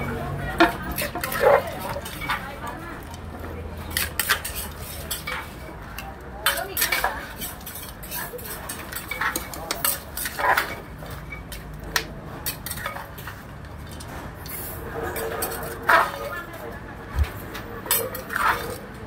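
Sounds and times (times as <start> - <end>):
metal spoon scraping mortar: 0.5 - 5.8, 6.5 - 11.6, 12.4 - 16.6, 17.5 - 19.0.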